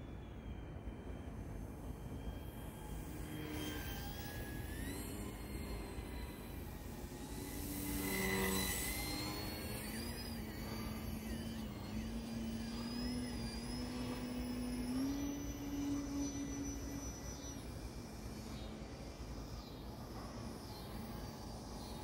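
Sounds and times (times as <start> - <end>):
model plane motor whining: 0.2 - 22.0.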